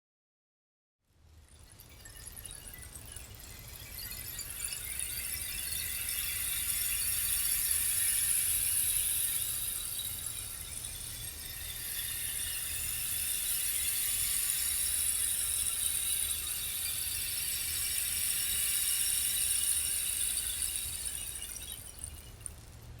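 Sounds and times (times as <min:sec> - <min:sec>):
rainstick hissing patter: 0:02.1 - 0:23.0.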